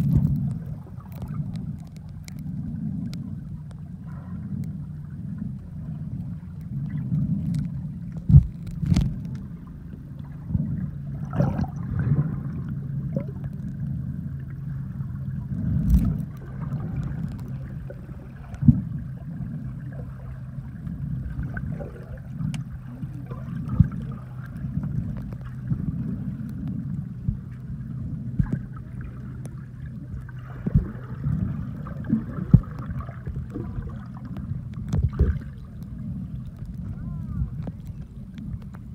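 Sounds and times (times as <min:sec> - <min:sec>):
muffled underwater hum: 0:00.0 - 0:38.9.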